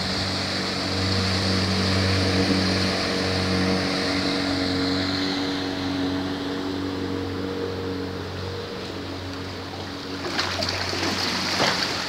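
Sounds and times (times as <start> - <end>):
boat wake rushing: 0.0 - 12.0
outboard motor droning: 0.0 - 12.0.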